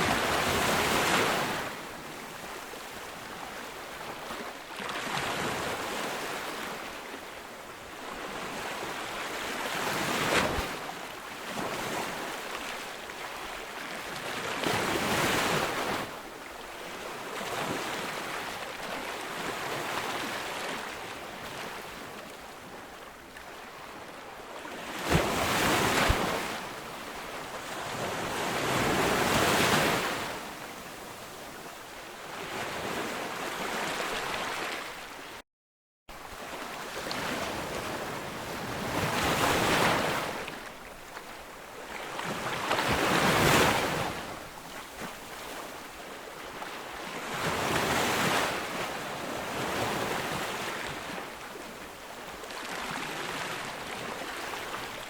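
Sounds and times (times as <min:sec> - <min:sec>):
ocean waves breaking on beach: 0:00.0 - 0:35.4, 0:36.1 - 0:55.0.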